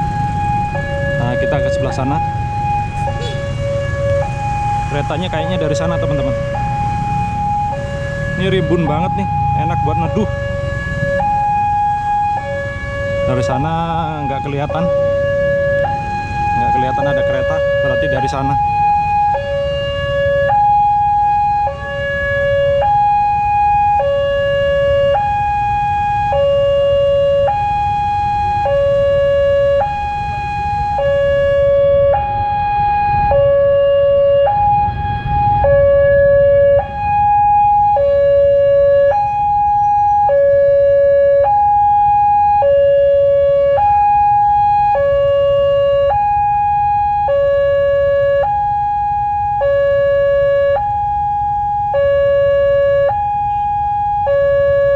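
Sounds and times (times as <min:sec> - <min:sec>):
road traffic rumble: 0:00.0 - 0:54.9.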